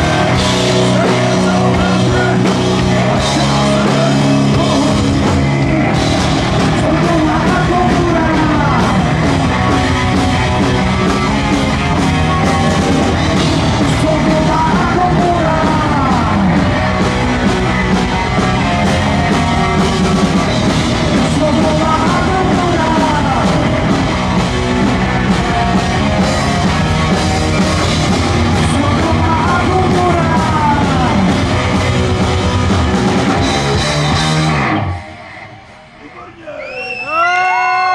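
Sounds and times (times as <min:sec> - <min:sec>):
drum kit: 0:00.0 - 0:35.7
bass guitar: 0:00.0 - 0:36.2
electric guitars: 0:00.0 - 0:36.2.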